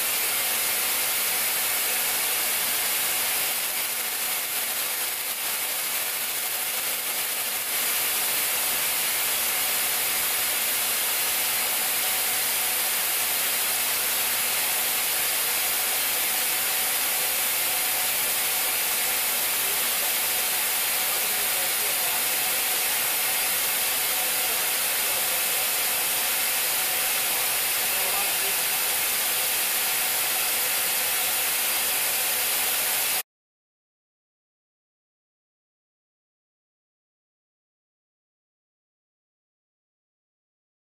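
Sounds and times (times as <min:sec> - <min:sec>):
machining center high hiss: 0:00.0 - 0:33.2.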